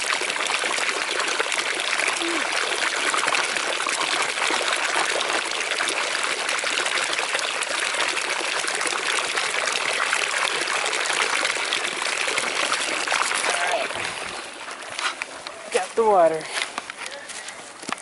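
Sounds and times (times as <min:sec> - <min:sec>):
water running and trickling: 0:00.0 - 0:17.1.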